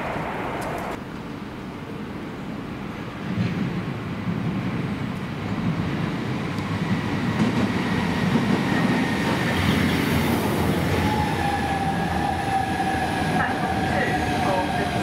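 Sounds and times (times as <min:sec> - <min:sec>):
train whine: 0:00.0 - 0:02.2, 0:04.6 - 0:15.0
wheels rumbling on rail: 0:00.0 - 0:15.0.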